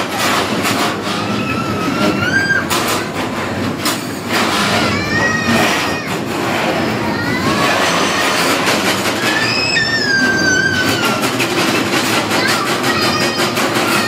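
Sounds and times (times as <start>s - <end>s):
bumper cars rolling: 0.0s - 14.0s
knocks and rattles: 0.0s - 14.0s
high squeals: 0.9s - 3.2s, 4.1s - 14.0s.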